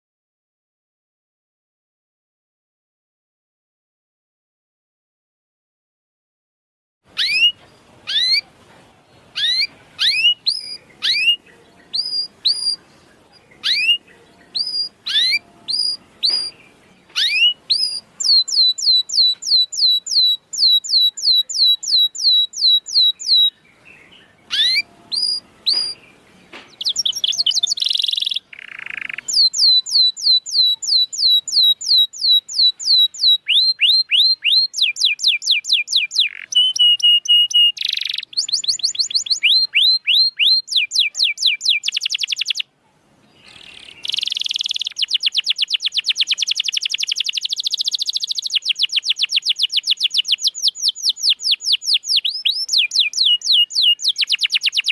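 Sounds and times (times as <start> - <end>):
canary singing: 7.1 - 54.9.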